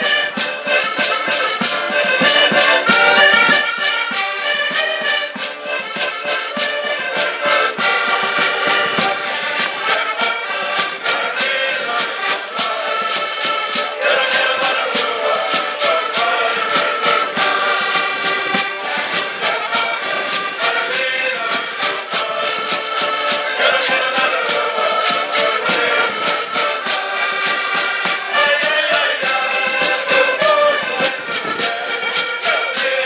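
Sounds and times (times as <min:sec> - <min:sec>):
accordions playing folk tune: 0:00.0 - 0:33.0
scraper and hand percussion beat: 0:00.0 - 0:33.0.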